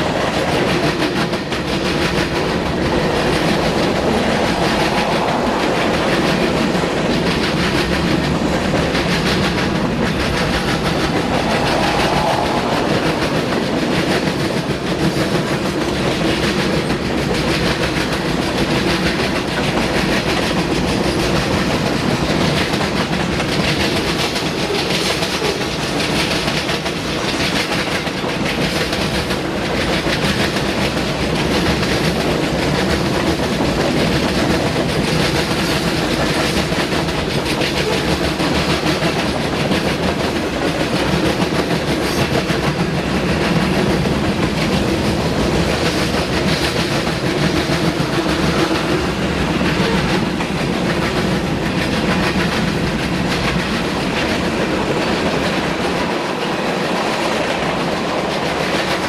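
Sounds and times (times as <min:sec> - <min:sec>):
steel wheels rumbling on rail: 0:00.0 - 0:59.0.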